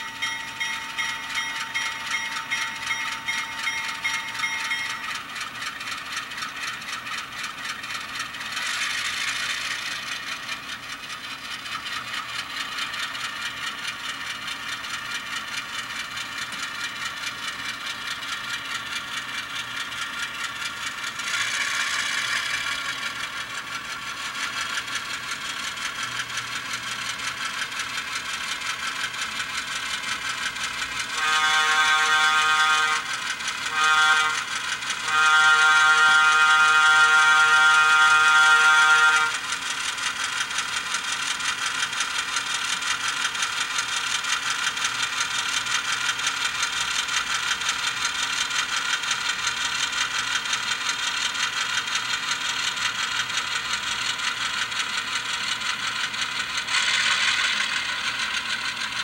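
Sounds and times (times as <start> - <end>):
diesel engine sound from small speaker: 0.0 - 59.0.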